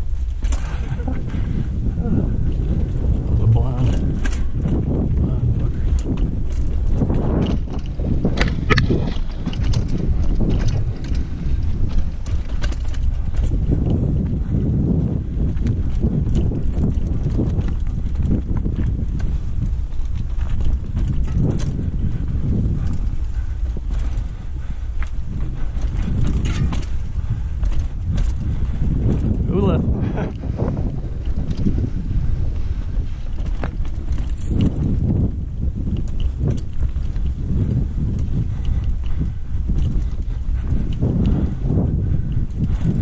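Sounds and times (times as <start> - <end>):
bike rattling and knocking: 0.0 - 43.0
tyres over dirt and stones: 0.0 - 43.0
wind rumbling on microphone: 0.0 - 43.0.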